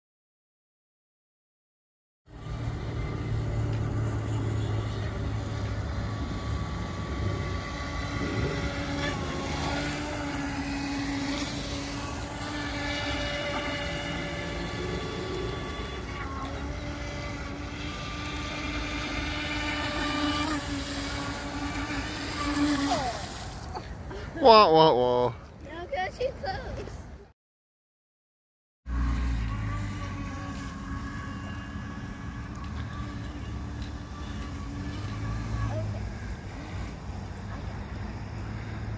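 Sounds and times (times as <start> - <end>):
model boat motor whining: 2.3 - 25.3, 28.9 - 38.9.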